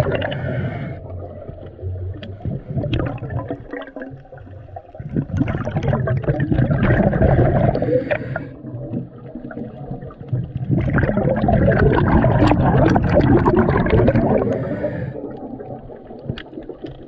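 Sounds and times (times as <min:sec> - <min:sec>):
water gurgling and bubbling: 0:00.0 - 0:17.0.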